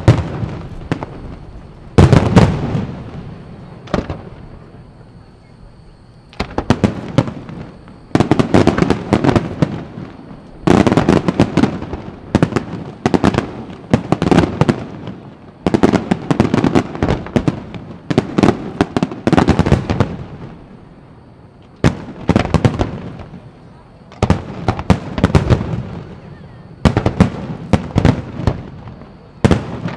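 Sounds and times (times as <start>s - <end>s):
fireworks bursting: 0.0s - 29.9s.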